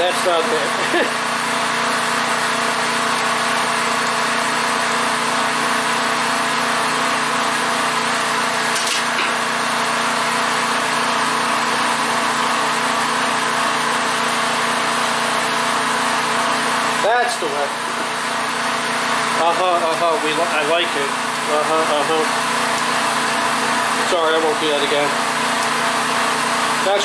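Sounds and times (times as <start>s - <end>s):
generator engine running: 0.0s - 27.0s.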